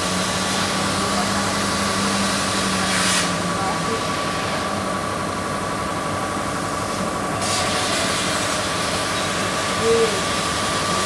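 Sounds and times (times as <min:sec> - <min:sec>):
laser cutting machine hum and hiss: 0:00.0 - 0:11.0.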